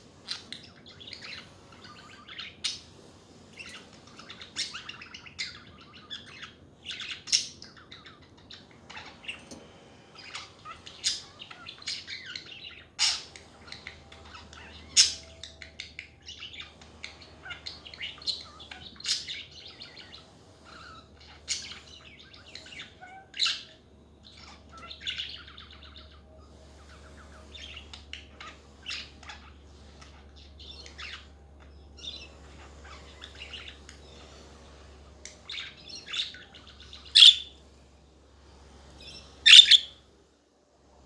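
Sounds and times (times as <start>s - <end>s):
budgerigars chattering: 0.2s - 2.9s, 3.6s - 9.5s, 10.1s - 34.4s, 35.4s - 37.6s, 39.0s - 40.0s
sharp bird calls: 0.2s - 37.7s, 39.0s - 40.1s.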